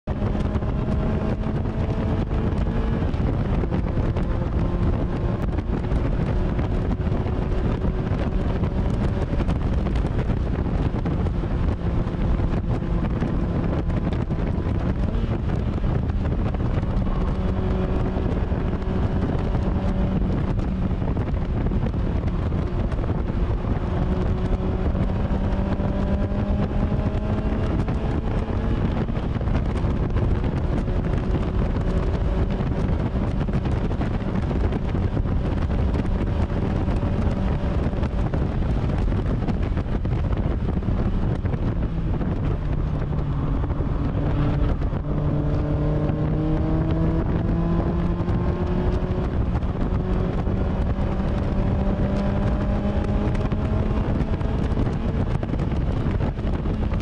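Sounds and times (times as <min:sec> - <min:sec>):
car engine revving on track: 0:00.0 - 0:57.0
wind noise on microphone: 0:00.0 - 0:57.0.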